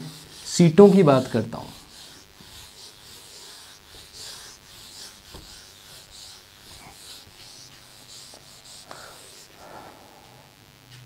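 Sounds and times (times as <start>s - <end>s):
duster swishing on whiteboard: 0.0s - 9.6s.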